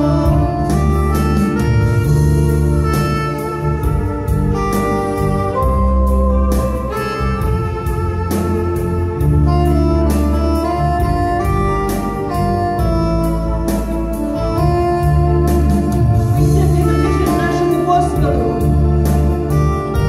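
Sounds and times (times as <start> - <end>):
bass line: 0.0 - 20.0
organ-like keyboard chords: 0.0 - 20.0.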